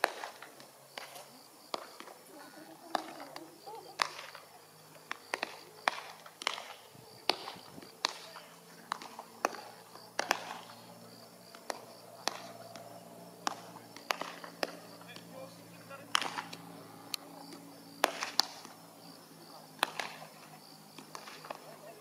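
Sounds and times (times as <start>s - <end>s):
baseballs smacking into gloves: 0.0s - 10.9s, 11.5s - 15.3s, 16.0s - 18.8s, 19.7s - 21.8s.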